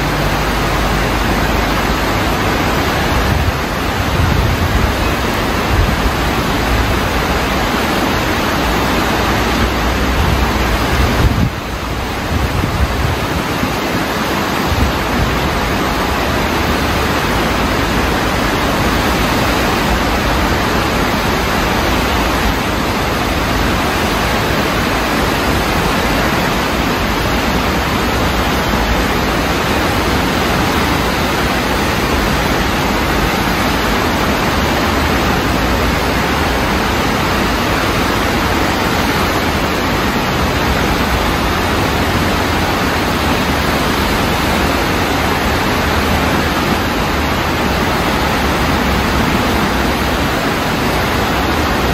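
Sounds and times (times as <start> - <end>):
rushing floodwater roar: 0.0 - 51.9.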